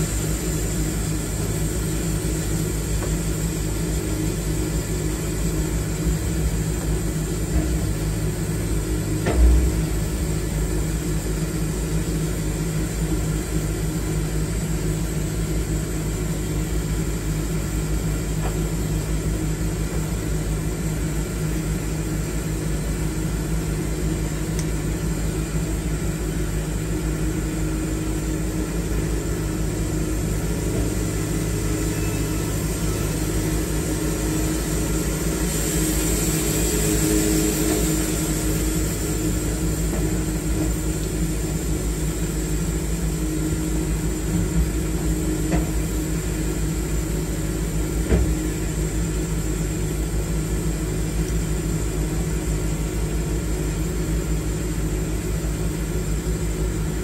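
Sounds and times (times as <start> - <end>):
hiss: 0.0 - 53.8
sawmill engine running: 0.0 - 57.0.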